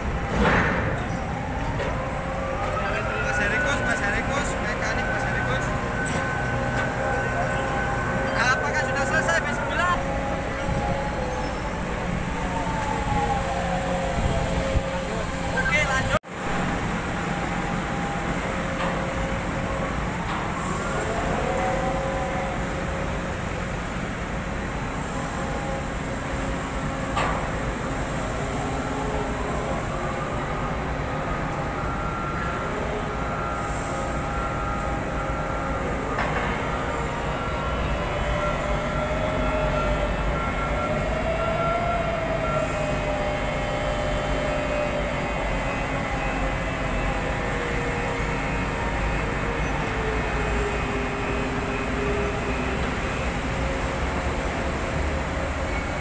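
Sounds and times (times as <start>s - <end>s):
crane whining: 0.0s - 56.0s.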